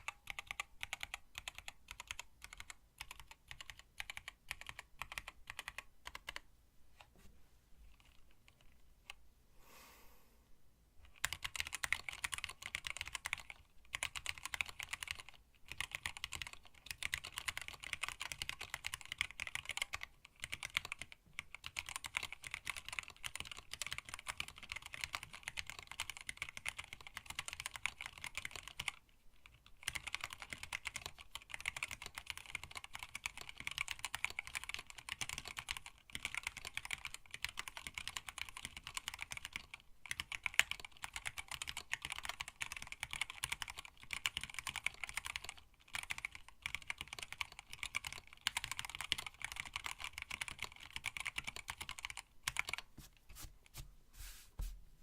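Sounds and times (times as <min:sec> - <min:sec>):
fast mechanical keyboard typing: 0:00.0 - 0:06.5, 0:11.1 - 0:52.9.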